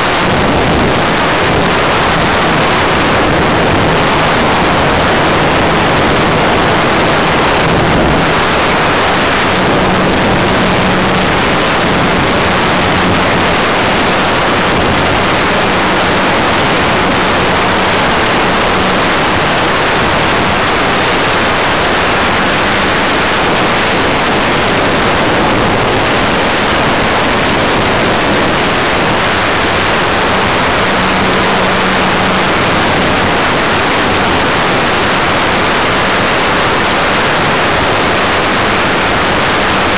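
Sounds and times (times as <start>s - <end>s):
airflow rushing: 0.0s - 36.9s
low motor drone: 0.0s - 39.9s.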